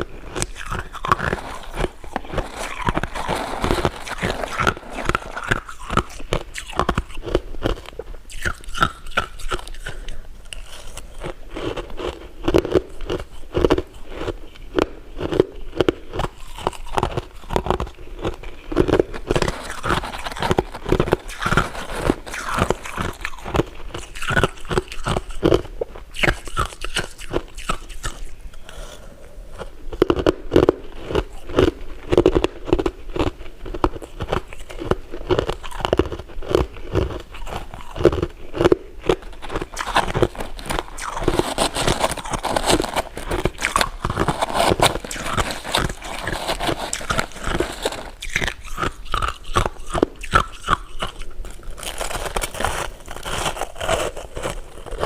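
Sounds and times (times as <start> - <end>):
crunching bites and chewing: 0.0 - 55.0.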